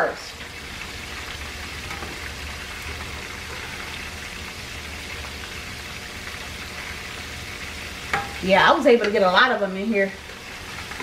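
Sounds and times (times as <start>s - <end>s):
shrimp deep-frying in oil: 0.0s - 11.0s.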